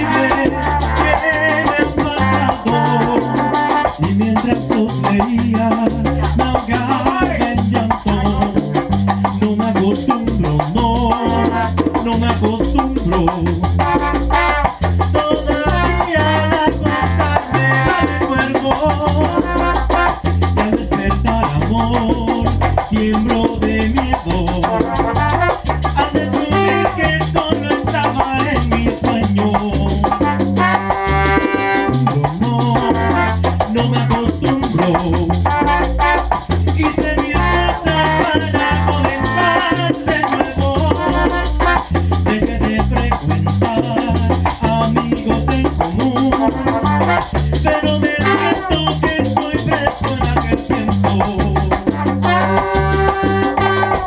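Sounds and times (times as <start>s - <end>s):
man singing into microphone: 0.0s - 14.2s, 15.1s - 19.8s, 20.5s - 25.3s, 26.0s - 35.9s, 36.7s - 54.0s
salsa band playing: 0.0s - 54.0s.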